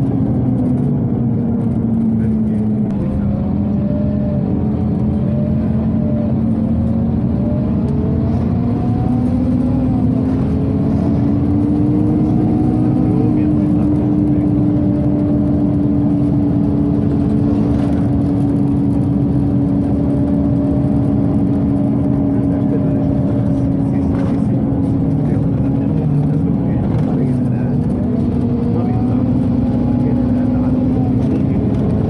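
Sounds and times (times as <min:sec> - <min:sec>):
bus engine and ventilation hum: 0:00.0 - 0:32.0.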